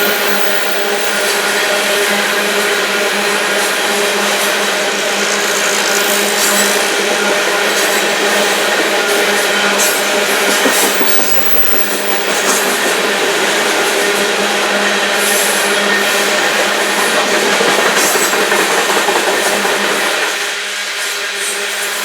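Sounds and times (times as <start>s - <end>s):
train cars rolling on rails: 0.0s - 22.0s.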